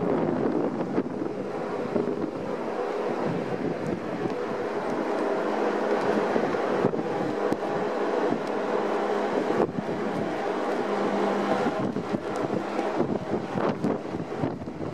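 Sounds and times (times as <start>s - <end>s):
ferry engines droning: 0.0s - 14.9s
wind buffeting microphone: 0.0s - 14.9s.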